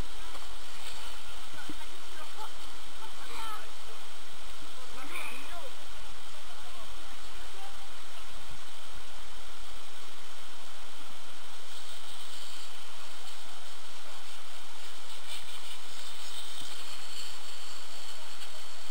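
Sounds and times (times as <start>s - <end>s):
skis sliding over snow: 0.0s - 18.9s.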